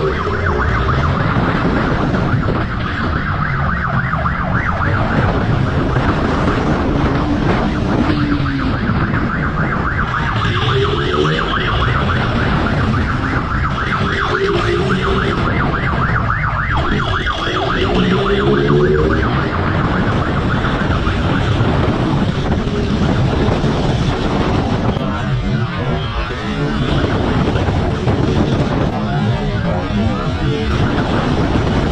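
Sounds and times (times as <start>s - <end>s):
police siren warbling: 0.0s - 31.9s
vehicle engine rumble: 0.0s - 31.9s
wind noise: 0.0s - 31.9s.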